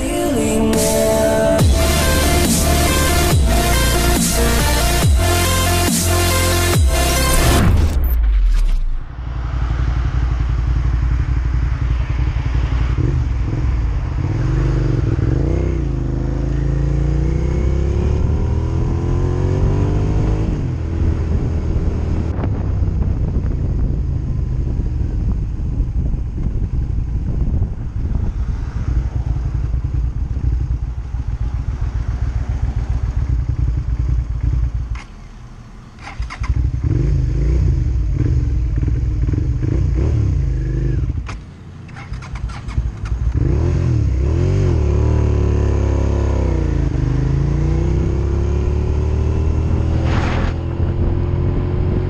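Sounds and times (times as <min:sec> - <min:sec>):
motorcycle engine revving: 0:00.0 - 0:07.9, 0:09.2 - 0:52.0.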